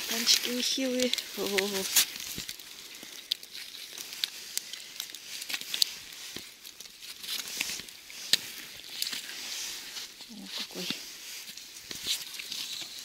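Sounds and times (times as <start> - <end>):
crinkling and sharp clicks: 0.0 - 13.0
gloved hand handling fish: 0.0 - 13.0.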